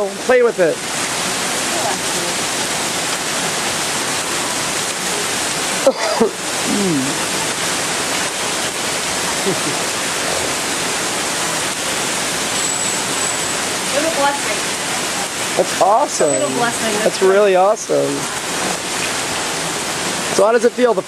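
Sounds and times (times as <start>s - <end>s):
heavy rain and hail: 0.0s - 21.0s.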